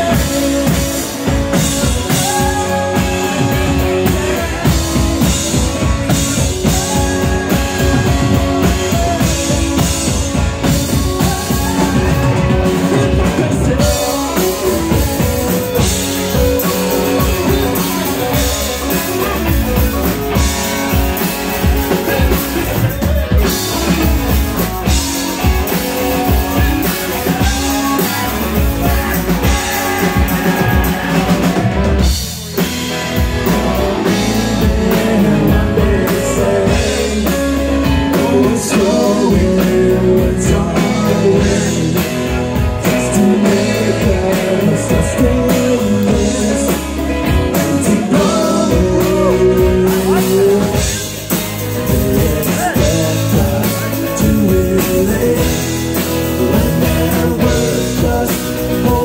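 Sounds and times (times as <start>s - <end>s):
bass guitar: 0.0s - 59.0s
drum kit: 0.0s - 59.0s
electric guitars: 0.0s - 59.0s
lead vocal singing: 0.0s - 59.0s.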